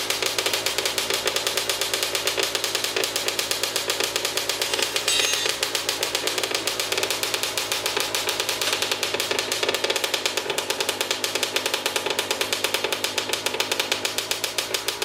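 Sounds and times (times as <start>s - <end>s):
two-stroke engine idling: 0.0s - 15.0s.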